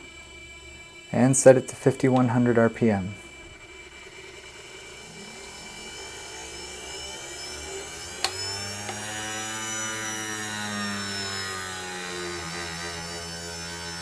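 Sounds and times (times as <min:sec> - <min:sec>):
motor whine: 0:00.0 - 0:14.0.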